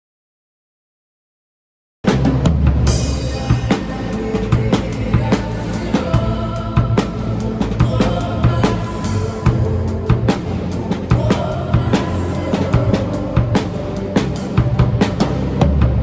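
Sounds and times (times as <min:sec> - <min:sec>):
drum kit playing: 0:02.0 - 0:16.0
worship song backing music: 0:02.8 - 0:16.0.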